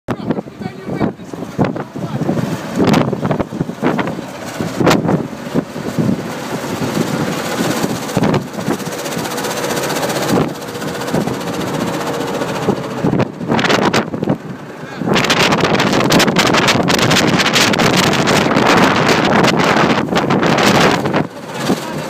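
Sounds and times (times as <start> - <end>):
vehicle engine running: 0.1 - 22.0
wind buffeting microphone: 0.1 - 22.0.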